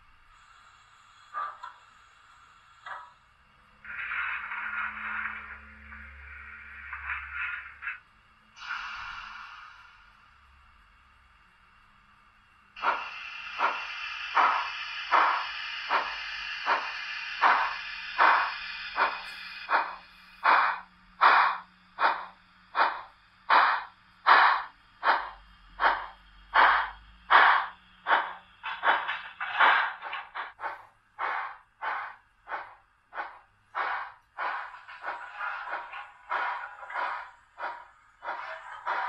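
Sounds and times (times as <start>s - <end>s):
model locomotive exhaust chuffs: 0.0s - 10.4s, 12.7s - 39.0s
steam hiss: 0.3s - 8.0s, 8.6s - 10.3s, 12.8s - 39.0s.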